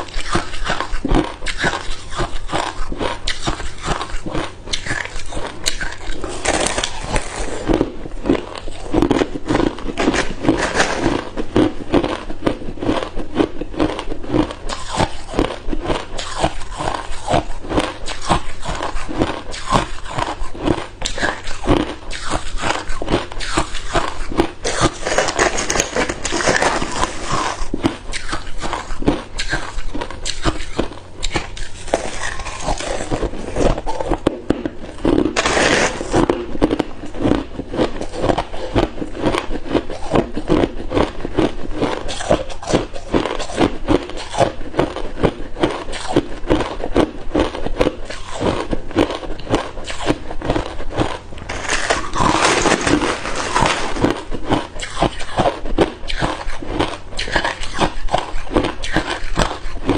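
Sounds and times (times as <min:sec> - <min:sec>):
ice cubes crunched by teeth: 0:00.0 - 0:59.9.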